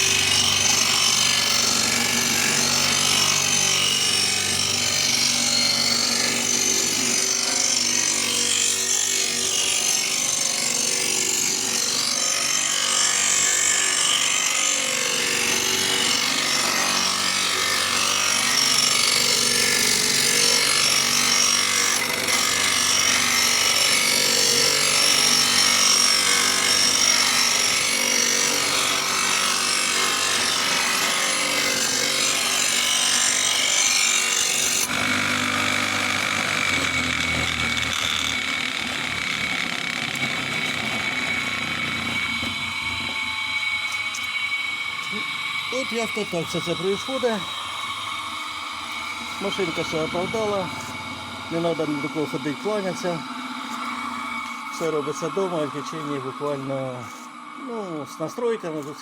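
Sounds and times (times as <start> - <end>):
grinding wheel hissing on steel: 0.0 - 59.0
sharpening machine motor humming: 0.0 - 59.0.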